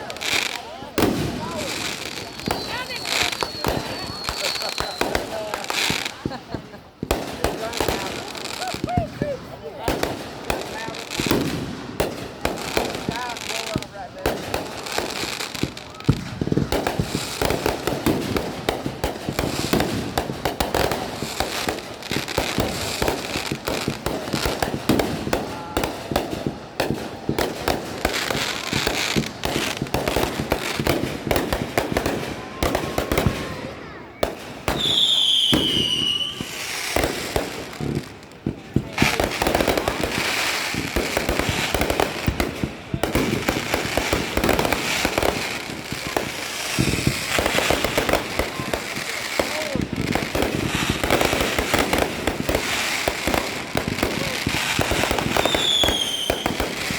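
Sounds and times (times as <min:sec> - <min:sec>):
fireworks popping and banging: 0:00.0 - 0:56.9
whistling firework: 0:00.0 - 0:56.9.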